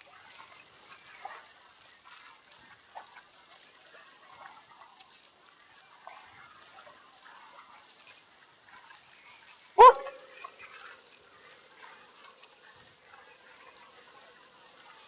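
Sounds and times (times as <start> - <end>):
paddle strokes splashing: 0.0 - 15.0.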